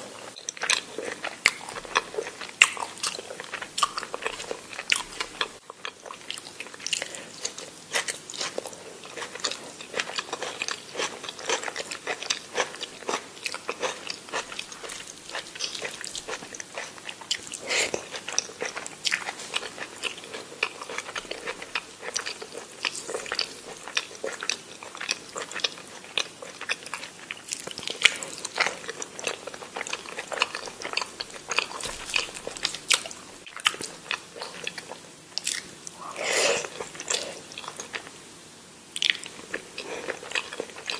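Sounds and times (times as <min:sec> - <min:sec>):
chewing and biting food: 0:00.3 - 0:38.1, 0:39.0 - 0:40.9.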